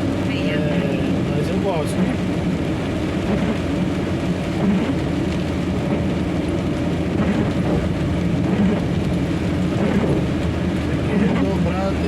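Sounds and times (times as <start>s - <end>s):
truck engine drone: 0.0s - 12.0s
tyres on wet road: 0.0s - 12.0s.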